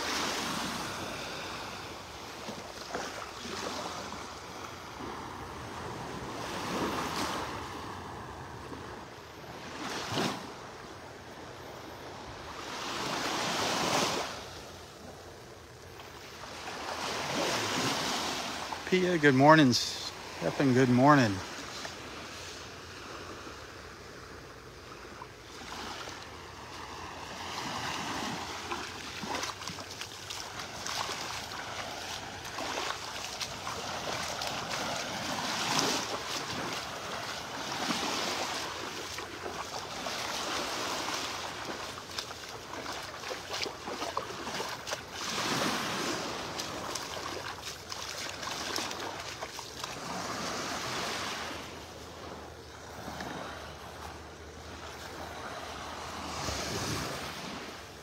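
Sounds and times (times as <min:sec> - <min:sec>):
small waves washing onto beach: 0:00.0 - 0:58.0.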